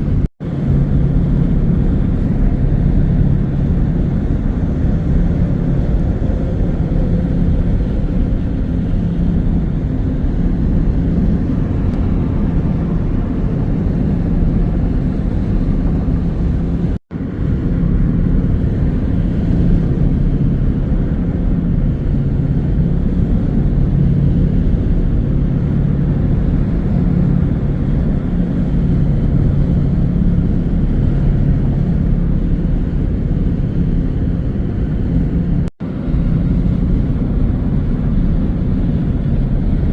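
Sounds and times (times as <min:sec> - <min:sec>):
car tyre and engine drone: 0:00.0 - 0:39.9.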